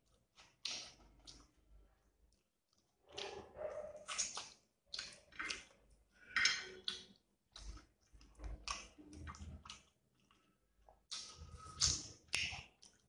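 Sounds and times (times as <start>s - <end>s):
wet chewing sounds: 0.0s - 13.0s.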